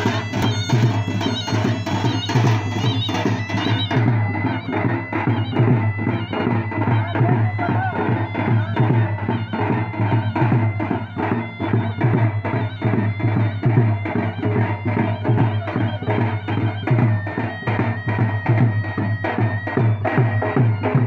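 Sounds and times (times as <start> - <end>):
shrill reedy wind instrument: 0.0 - 21.0.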